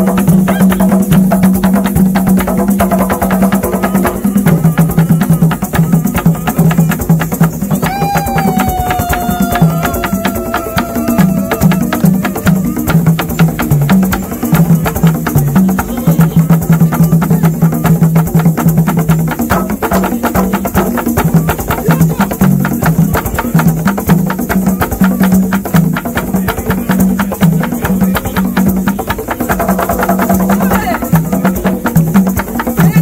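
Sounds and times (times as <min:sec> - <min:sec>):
fast dense drumming: 0:00.0 - 0:33.0.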